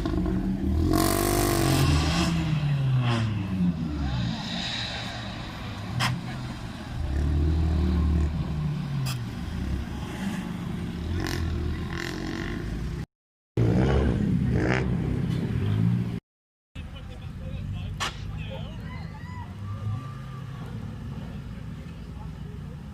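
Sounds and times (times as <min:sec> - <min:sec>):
car engines revving: 0:00.0 - 0:16.2, 0:16.8 - 0:22.9.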